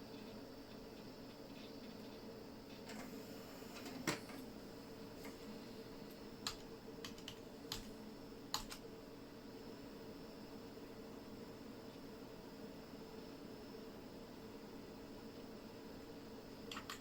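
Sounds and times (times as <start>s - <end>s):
computer hum: 0.0s - 17.0s.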